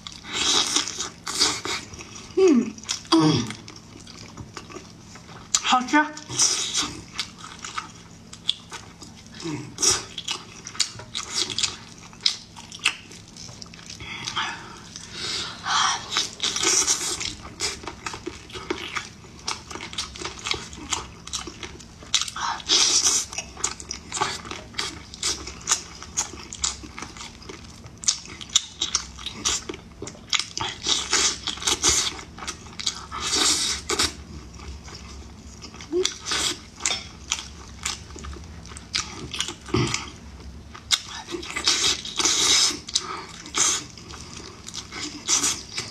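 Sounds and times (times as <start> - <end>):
chewing and wet mouth sounds: 0.0 - 45.9.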